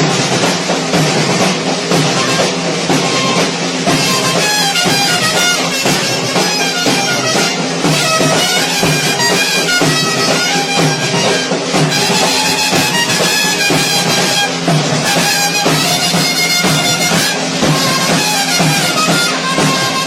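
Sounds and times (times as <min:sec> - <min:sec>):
instrumental music with steady beat: 0:00.0 - 0:20.0.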